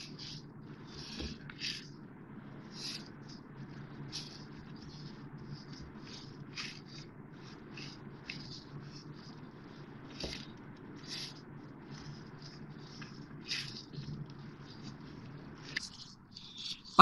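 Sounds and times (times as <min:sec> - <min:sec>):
gloved hand kneading dough: 0:00.0 - 0:17.0
low steady hum: 0:00.0 - 0:17.0.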